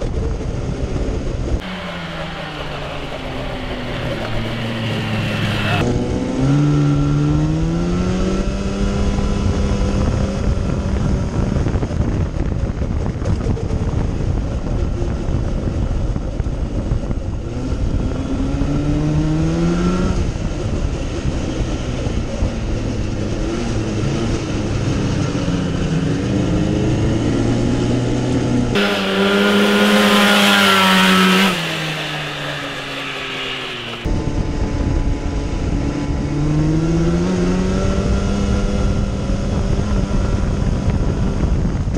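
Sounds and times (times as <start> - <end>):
go-kart engine revving: 0.1 - 41.9.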